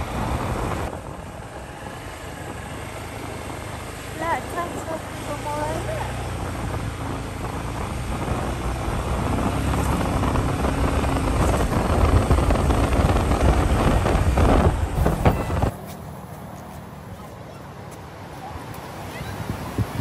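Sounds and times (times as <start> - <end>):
wind buffeting microphone: 0.0 - 15.8, 18.4 - 20.0
vehicle engine: 0.0 - 20.0.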